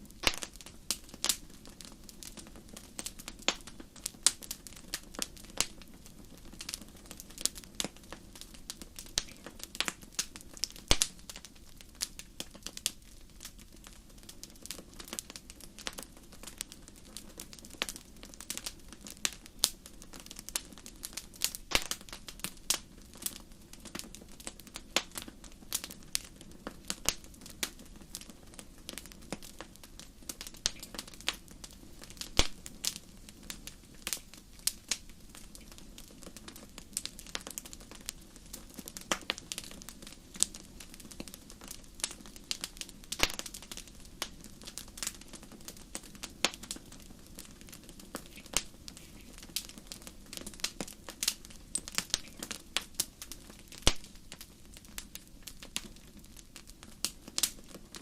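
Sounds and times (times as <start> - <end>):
burning wood popping and snapping: 0.0 - 58.0
low steady hiss: 0.0 - 58.0.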